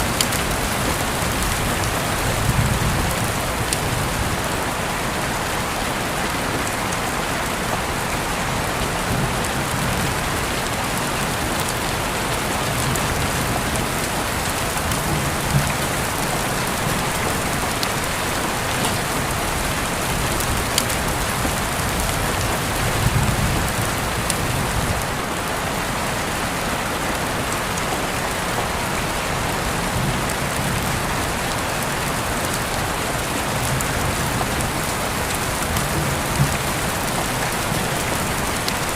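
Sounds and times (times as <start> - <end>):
rain falling on a surface: 0.0 - 38.9.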